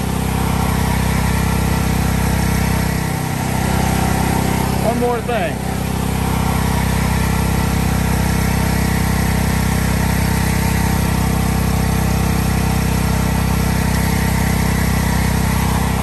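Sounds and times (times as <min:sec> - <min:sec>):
machine motor humming: 0:00.0 - 0:16.0.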